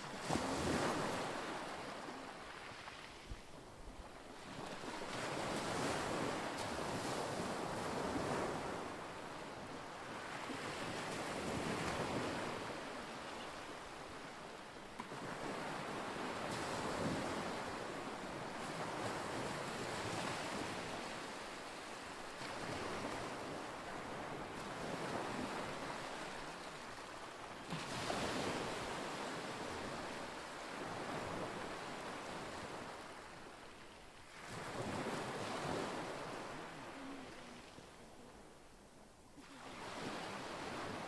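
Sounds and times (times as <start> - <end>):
wind: 0.0 - 41.0.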